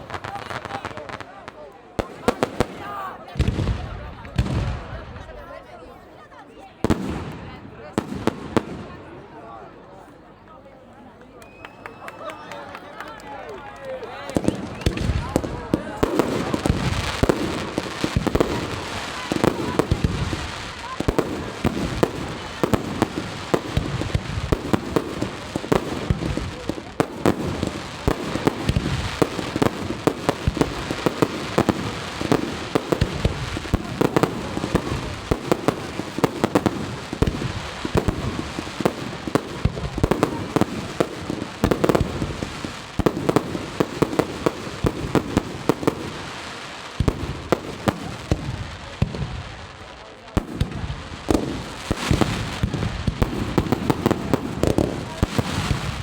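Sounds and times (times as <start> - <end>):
fireworks bursting and crackling: 0.0 - 9.3, 14.1 - 56.0.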